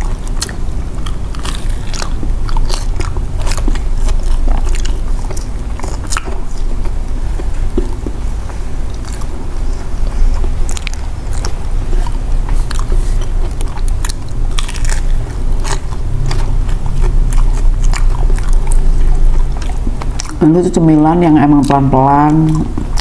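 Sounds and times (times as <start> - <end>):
crunchy chewing: 0.0 - 20.8.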